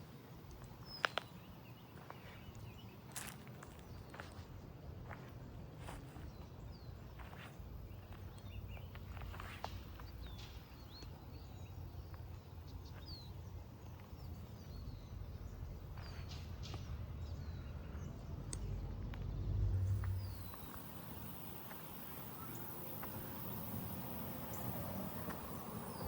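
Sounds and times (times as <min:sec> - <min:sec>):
birds chirping: 0:00.0 - 0:26.0
steady low rumble: 0:02.0 - 0:26.0.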